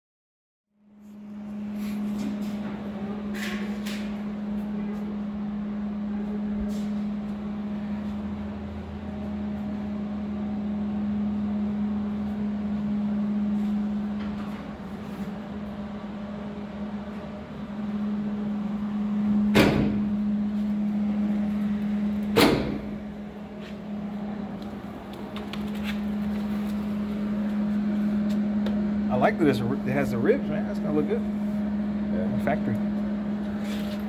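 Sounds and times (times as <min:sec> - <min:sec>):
deeper hum: 0:00.8 - 0:34.0
mechanical hum: 0:00.8 - 0:34.0.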